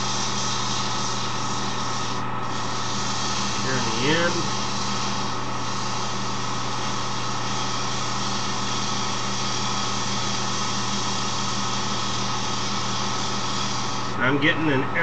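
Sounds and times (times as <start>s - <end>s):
sanding pad rubbing wood: 0.0s - 14.2s
wood lathe motor humming: 0.0s - 14.6s.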